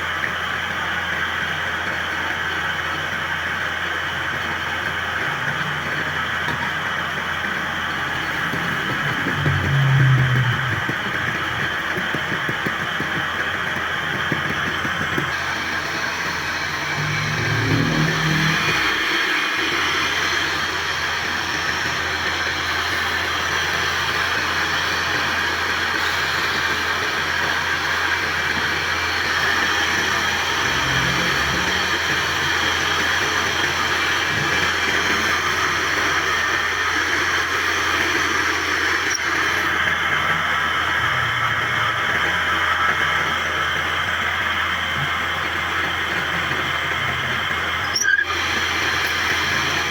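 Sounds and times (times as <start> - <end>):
steady machine noise: 0.0 - 49.9.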